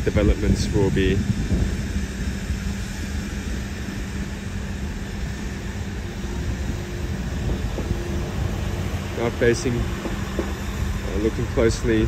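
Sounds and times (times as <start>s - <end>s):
low city traffic rumble: 0.0s - 12.0s.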